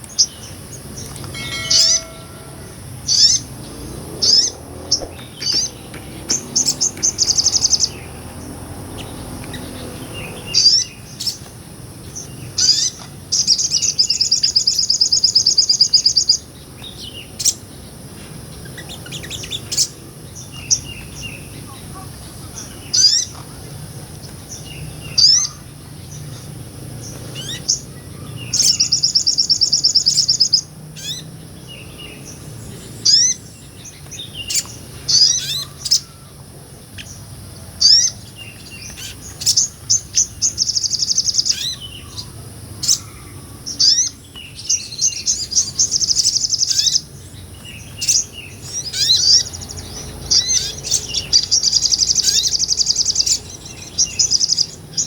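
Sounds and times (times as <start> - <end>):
bird chirping and trilling: 0.0 - 17.7, 18.5 - 23.4, 24.5 - 36.4, 37.0 - 55.0.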